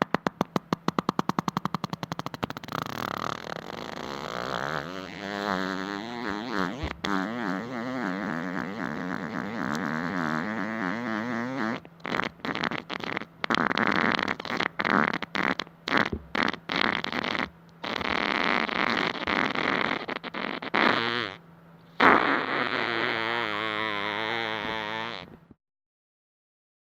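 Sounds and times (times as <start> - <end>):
human farts: 0.0 - 21.4, 22.0 - 25.6.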